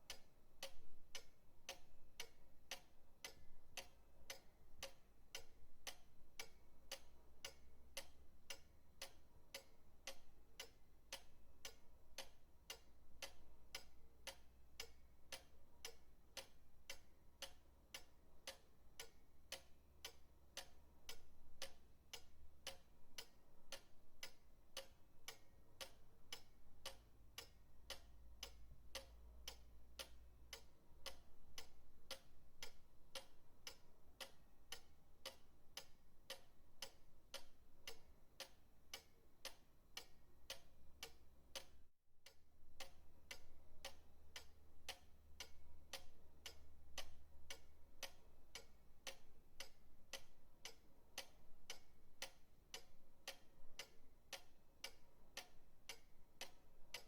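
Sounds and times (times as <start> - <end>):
pendulum clock ticking: 0.0 - 57.0.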